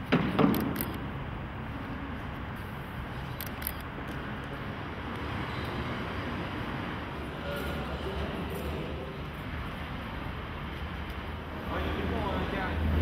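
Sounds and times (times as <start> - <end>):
vehicle rumble and road noise: 0.0 - 13.0.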